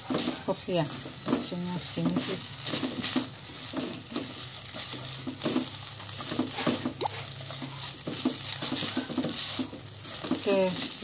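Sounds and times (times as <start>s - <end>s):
noodles sizzling: 0.0s - 11.0s
spatula scraping a wok: 0.0s - 11.0s.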